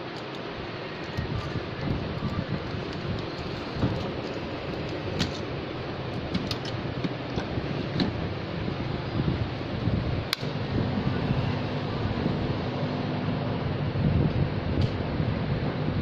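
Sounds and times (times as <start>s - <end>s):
hot-air station humming: 0.0s - 16.0s
steady background noise: 0.0s - 16.0s.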